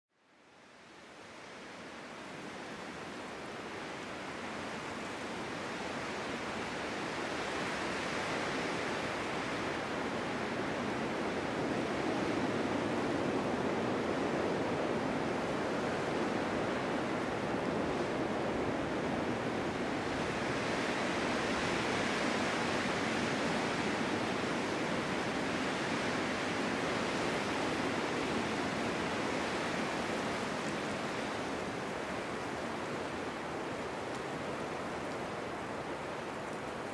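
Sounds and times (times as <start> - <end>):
gusting snowstorm wind: 0.9 - 36.9.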